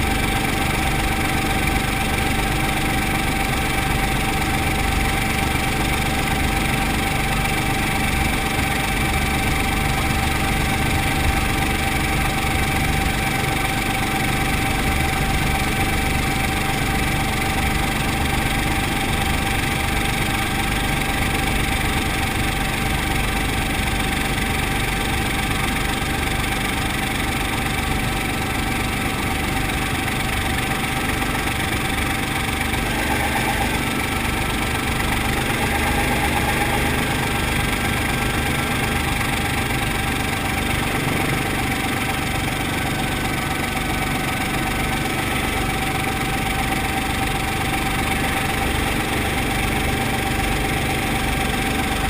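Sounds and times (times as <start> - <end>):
helicopter engine and rotor: 0.0 - 52.0.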